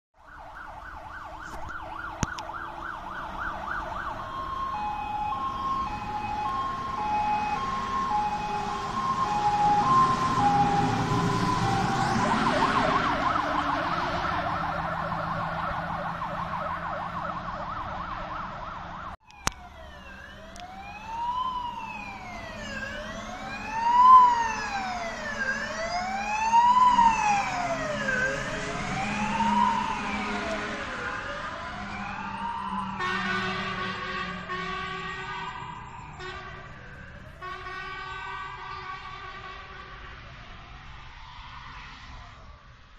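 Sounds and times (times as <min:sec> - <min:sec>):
warbling siren yelp: 0:00.2 - 0:38.9
siren wail: 0:00.2 - 0:39.6
two-note hi-lo siren: 0:00.3 - 0:39.0
truck rumble: 0:01.2 - 0:40.2.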